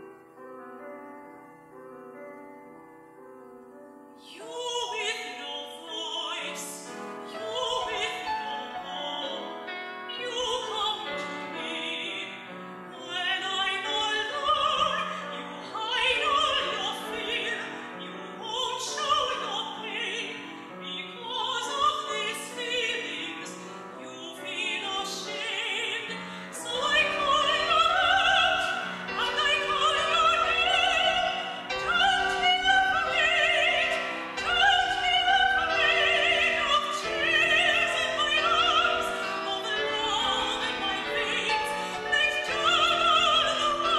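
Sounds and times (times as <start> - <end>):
piano accompaniment: 0.0 - 43.9
soprano singing: 0.0 - 43.9.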